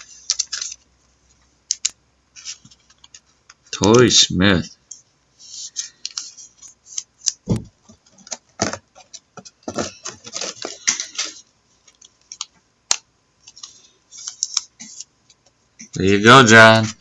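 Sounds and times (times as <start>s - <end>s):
soft rustles of cards: 0.0s - 17.0s.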